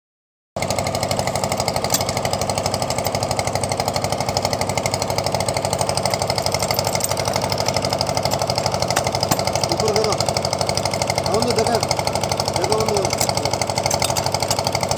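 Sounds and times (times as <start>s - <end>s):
small engine knocking: 0.6s - 14.9s.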